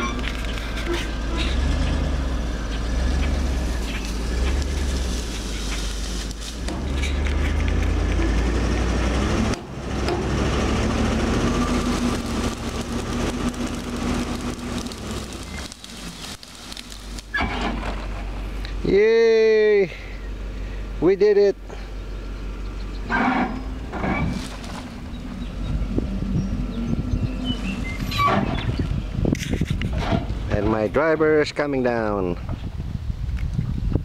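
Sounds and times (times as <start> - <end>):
heavy engine rumbling under load: 0.0 - 33.0.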